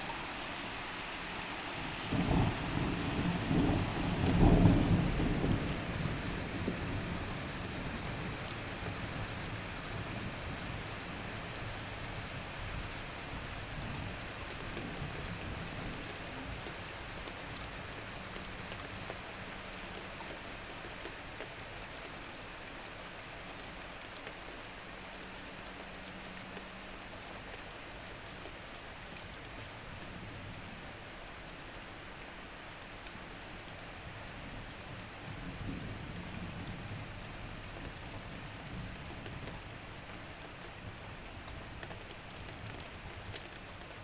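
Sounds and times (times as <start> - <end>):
heavy rain: 0.0 - 44.0
raindrops ticking on hard surface: 0.0 - 44.0.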